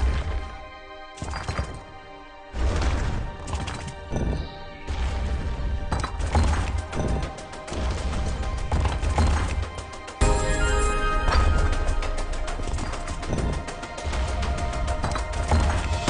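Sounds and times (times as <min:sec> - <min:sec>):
game background music: 0:00.0 - 0:16.0.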